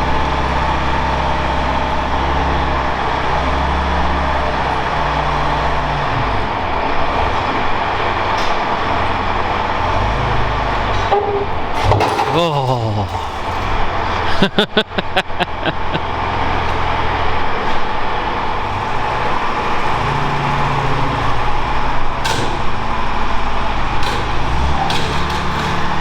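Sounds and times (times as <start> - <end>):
heavy vehicle engine running: 0.0 - 26.0.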